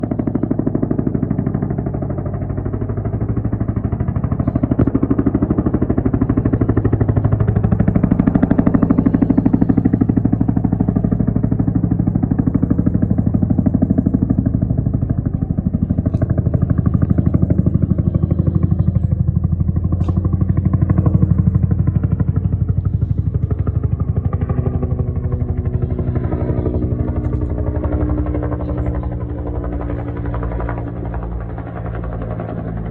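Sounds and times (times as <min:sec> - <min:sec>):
helicopter rotor chopping: 0:00.0 - 0:32.9.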